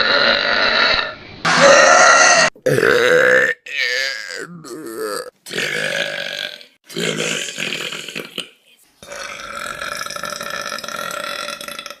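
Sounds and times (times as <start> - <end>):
girl burping: 1.5 - 12.0.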